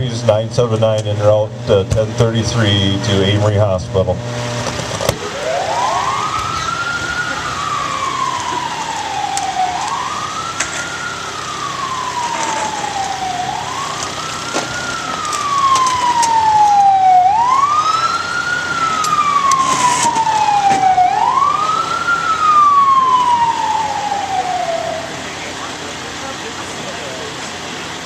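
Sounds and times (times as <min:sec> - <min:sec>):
ambulance siren wailing: 0:05.0 - 0:28.0.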